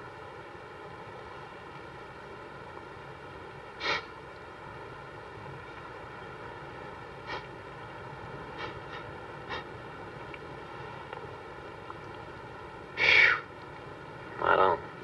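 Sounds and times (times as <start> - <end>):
car interior hum and hiss: 0.0 - 15.0.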